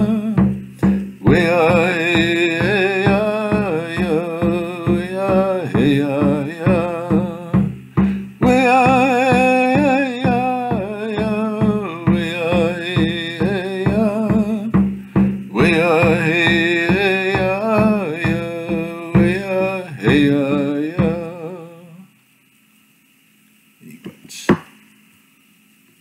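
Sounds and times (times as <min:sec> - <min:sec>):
frame drum beats: 0:00.0 - 0:22.0
man singing: 0:00.0 - 0:22.1.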